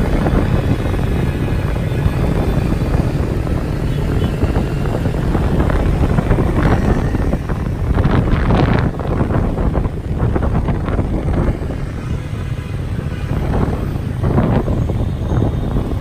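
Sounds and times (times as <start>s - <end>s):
vehicle running rumble: 0.0s - 16.0s
wind buffeting microphone: 0.0s - 16.0s.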